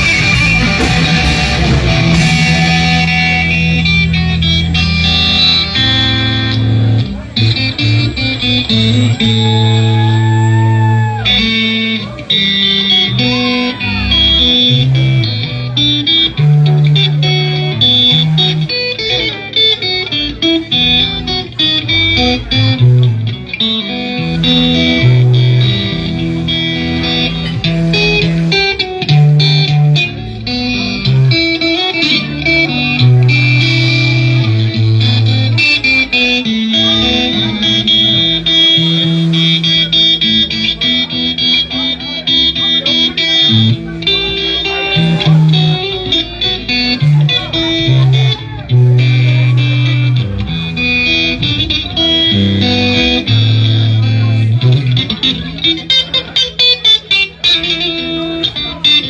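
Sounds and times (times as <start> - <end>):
moving bass line: 0.0 - 19.3, 20.2 - 56.3
blues guitar playing: 0.0 - 59.0.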